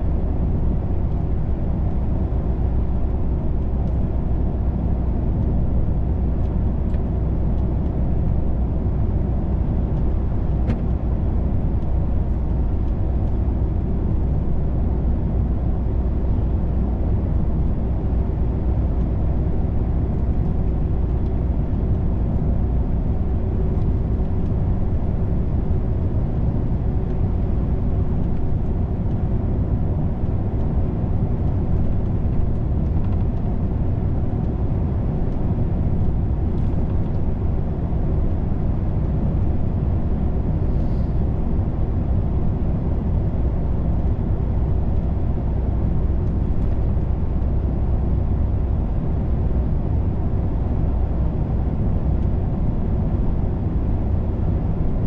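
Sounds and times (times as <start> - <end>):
truck diesel engine drone: 0.0 - 55.0.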